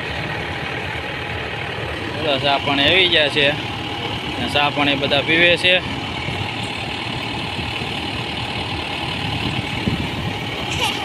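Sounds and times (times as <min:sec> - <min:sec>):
thresher drum churning: 0:00.0 - 0:11.0
tractor engine running under load: 0:00.0 - 0:11.0.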